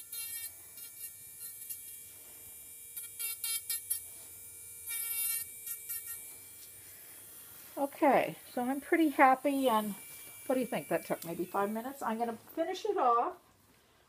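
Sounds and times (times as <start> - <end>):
electric drill whining: 0.0 - 12.4.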